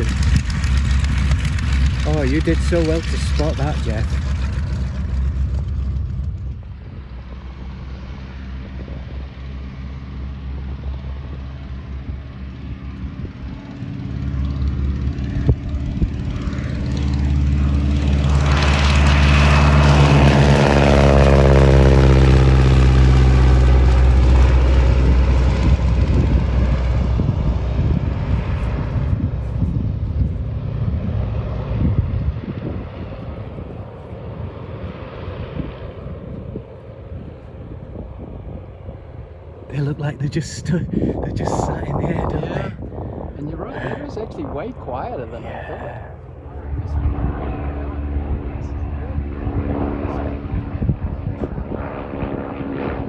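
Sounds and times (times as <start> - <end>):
biplane radial engine: 0.0 - 53.0.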